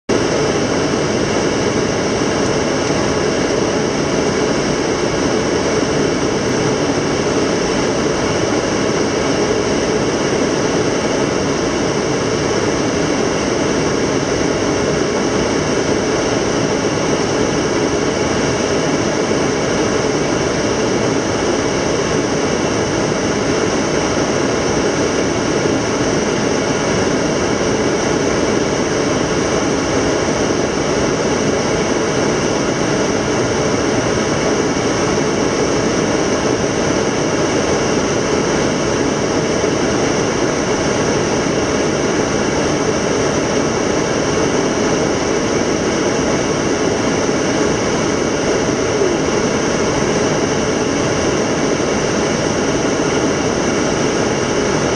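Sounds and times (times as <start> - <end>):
turbofan engine drone: 0.0 - 54.9
cockpit airflow: 0.1 - 54.9.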